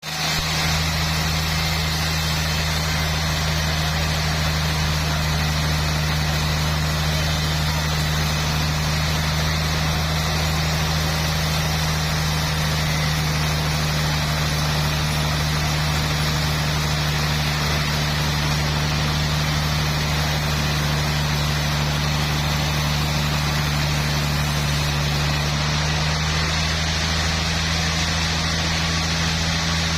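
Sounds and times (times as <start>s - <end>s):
sawmill machinery humming: 0.0s - 29.9s.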